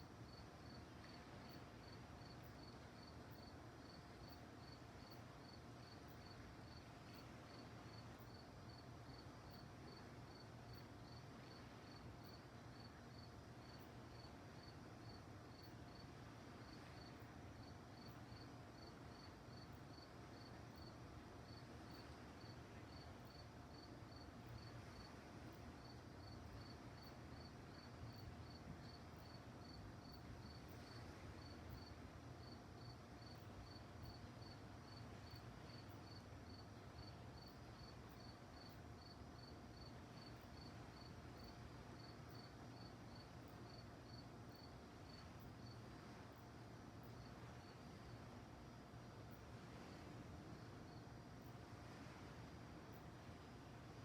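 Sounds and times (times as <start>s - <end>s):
crickets chirping: 0.0s - 54.0s
low background hiss: 0.0s - 54.0s.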